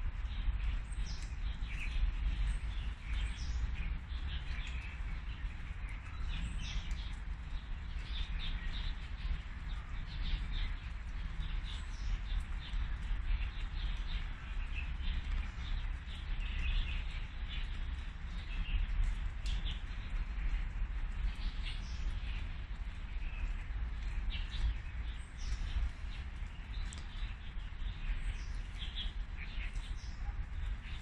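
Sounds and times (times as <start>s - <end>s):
small birds chirping: 0.0s - 31.0s
steady low rumble: 0.0s - 31.0s.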